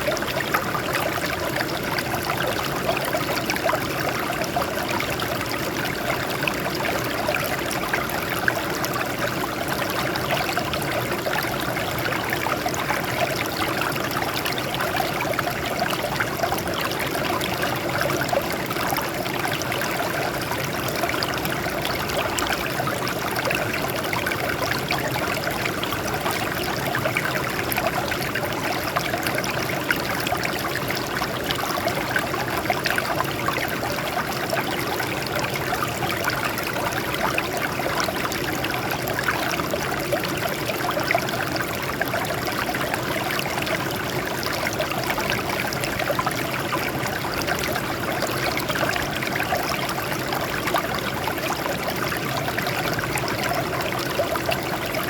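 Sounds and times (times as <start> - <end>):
water flowing over rocks: 0.0 - 55.0.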